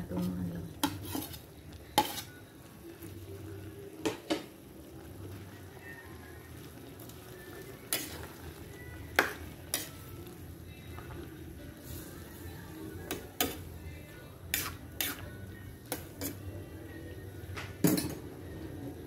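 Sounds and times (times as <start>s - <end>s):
pot bubbling: 0.0s - 16.6s.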